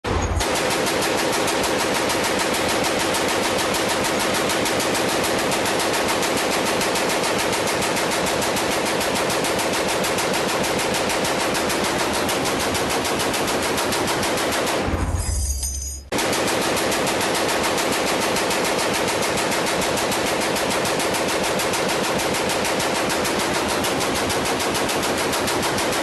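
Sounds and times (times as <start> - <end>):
machine gun firing automatic bursts: 0.4 - 14.9, 16.1 - 26.0.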